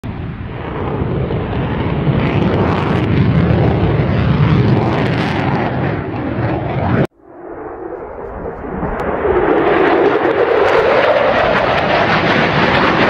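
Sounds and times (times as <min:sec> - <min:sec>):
jet engines in flight: 0:00.0 - 0:13.0.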